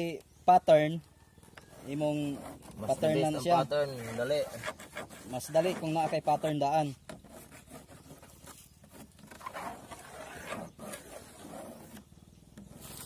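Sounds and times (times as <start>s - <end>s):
scratching and rubbing on plastic sheet: 1.6s - 13.0s.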